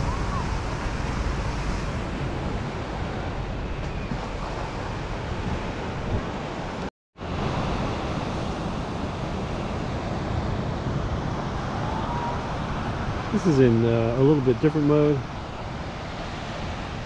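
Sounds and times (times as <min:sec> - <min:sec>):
surf breaking on beach: 0:00.0 - 0:17.0
wind on microphone: 0:00.0 - 0:17.0.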